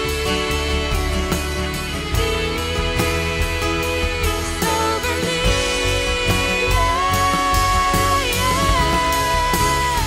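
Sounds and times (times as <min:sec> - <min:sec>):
instrumental band music: 0:00.0 - 0:10.0.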